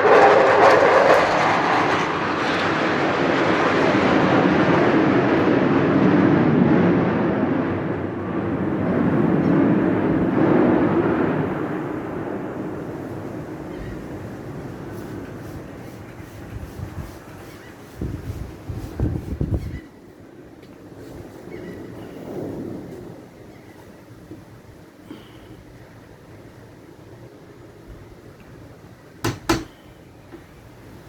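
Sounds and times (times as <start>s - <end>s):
aircraft engine rush: 0.0s - 31.0s.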